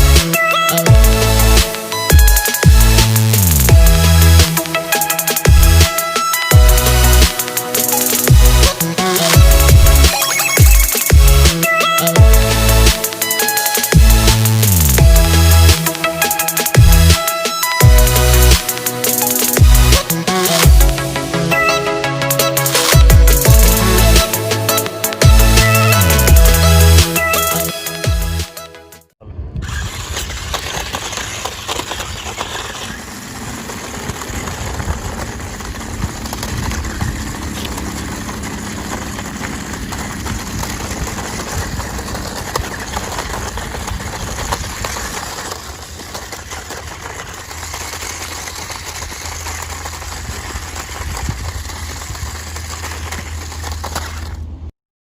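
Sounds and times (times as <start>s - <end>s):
toy car motor whirring: 0.0s - 28.4s, 29.5s - 54.7s.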